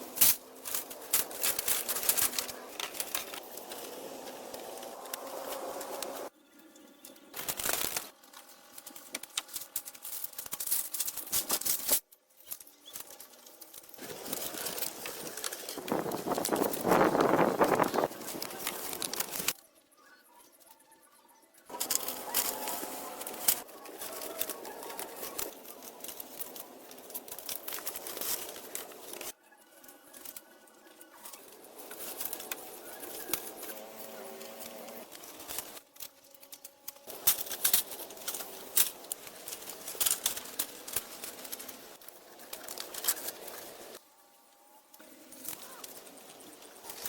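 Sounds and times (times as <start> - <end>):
rustling and crinkling: 0.0 - 19.6, 21.6 - 47.0.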